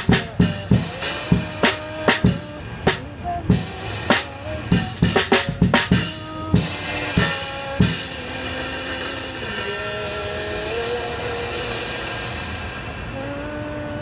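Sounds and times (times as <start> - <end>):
drum strikes: 0.0 - 13.1
cymbal ringing: 0.0 - 13.6
steady pitched hum: 0.0 - 14.0.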